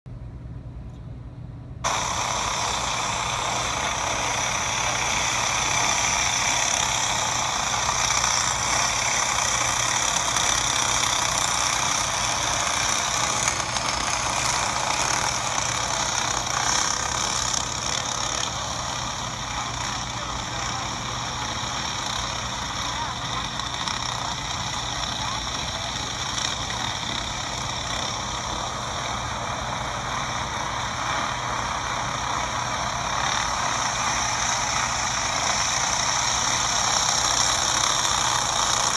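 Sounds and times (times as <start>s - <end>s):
racing kart engines through phone speaker: 1.8s - 38.9s.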